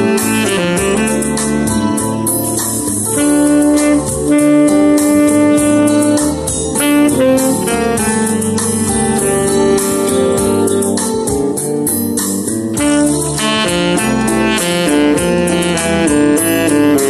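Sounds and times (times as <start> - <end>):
tenor saxophone melody: 0.0 - 17.0.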